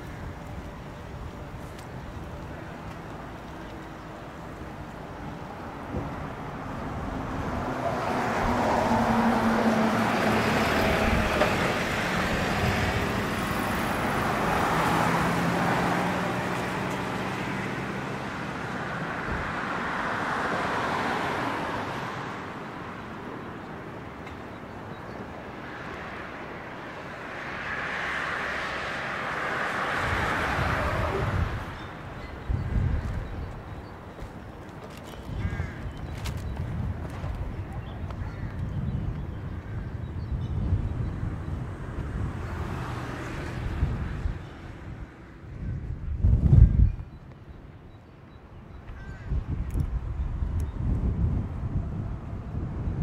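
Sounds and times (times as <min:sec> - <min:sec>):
vehicles passing: 0:00.0 - 0:53.0.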